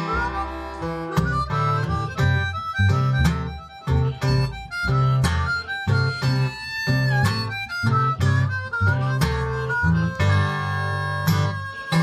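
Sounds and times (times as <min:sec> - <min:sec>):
blues harmonica with bent notes: 0:00.0 - 0:12.0
strummed acoustic guitar: 0:00.0 - 0:12.0
washtub bass low notes: 0:00.0 - 0:12.0.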